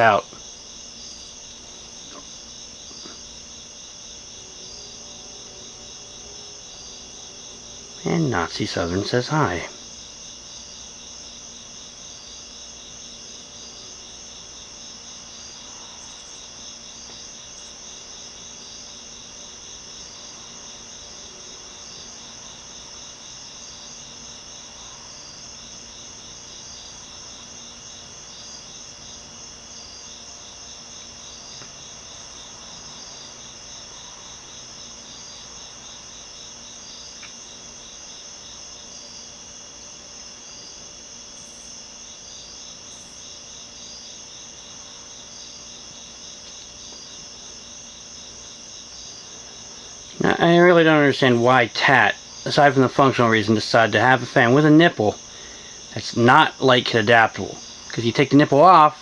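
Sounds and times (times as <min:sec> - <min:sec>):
faint low hum: 0:00.0 - 0:41.8, 0:42.4 - 0:59.0
crickets chirping: 0:00.0 - 0:59.0.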